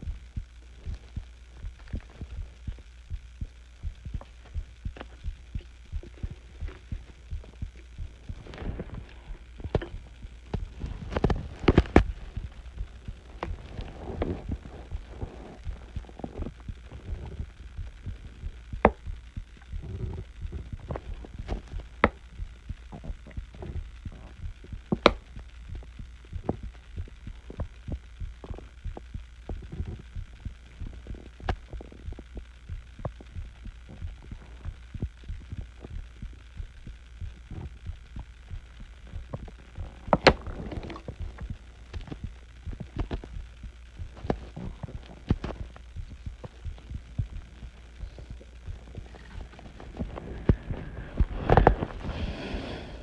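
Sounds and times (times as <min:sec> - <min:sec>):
heartbeat thumps: 0:00.0 - 0:53.0.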